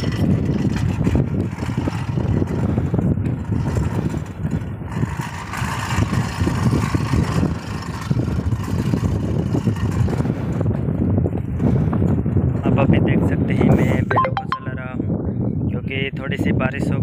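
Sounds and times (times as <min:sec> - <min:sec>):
wind buffeting microphone: 0:00.0 - 0:14.1, 0:14.8 - 0:17.0.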